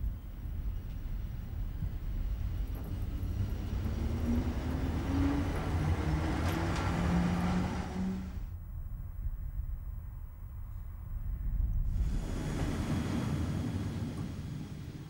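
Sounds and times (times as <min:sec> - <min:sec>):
train wheels rumbling: 0:00.0 - 0:08.5, 0:11.3 - 0:15.0.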